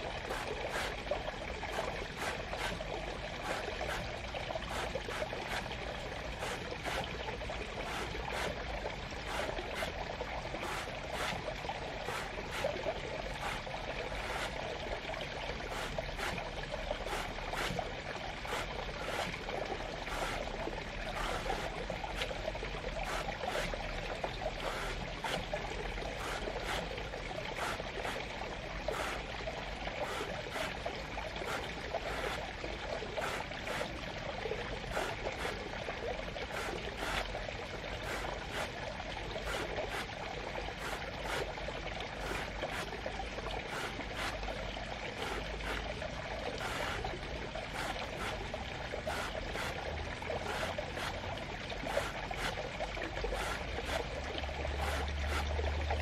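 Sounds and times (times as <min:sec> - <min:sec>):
running water: 0:00.0 - 0:56.0
short splashes or clicks: 0:00.0 - 0:56.0.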